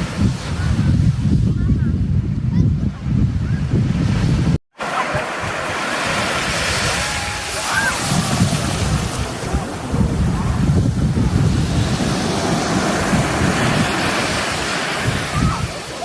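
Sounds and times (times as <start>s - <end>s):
waves breaking on beach: 0.0s - 1.4s, 3.9s - 16.0s
wind buffeting microphone: 0.0s - 16.0s.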